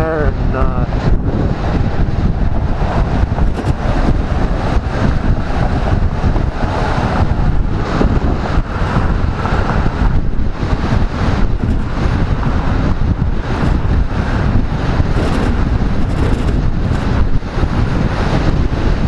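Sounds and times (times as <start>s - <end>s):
wind buffeting microphone: 0.0s - 19.0s
motorcycle engine running: 1.2s - 19.0s.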